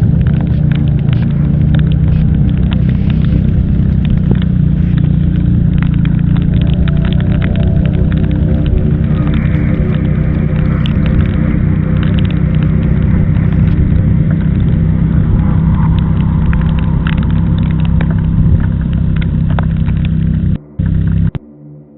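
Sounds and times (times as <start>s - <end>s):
car engine hum: 0.0s - 21.4s
road rumble: 0.0s - 21.4s.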